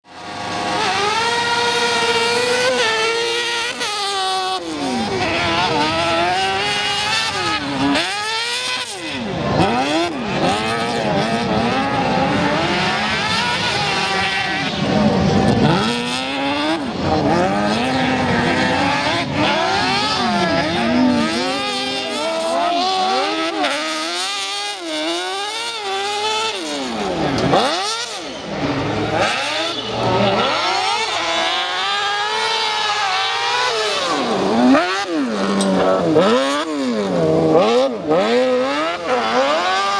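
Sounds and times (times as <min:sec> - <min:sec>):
buggy engine revving high: 0:00.0 - 0:39.9.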